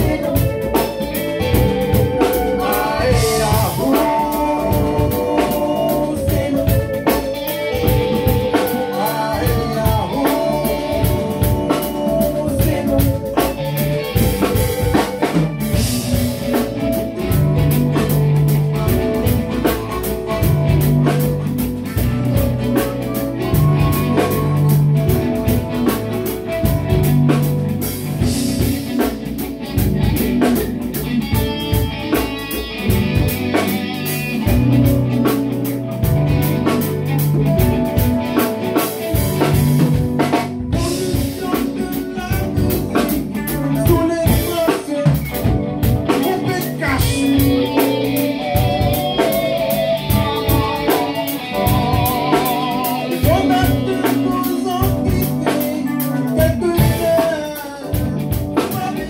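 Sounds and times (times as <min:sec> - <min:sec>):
person singing: 0:00.0 - 0:29.1, 0:36.6 - 0:59.0
bass guitar: 0:00.0 - 0:59.0
drum kit beat: 0:00.0 - 0:59.0
guitar: 0:00.0 - 0:59.0.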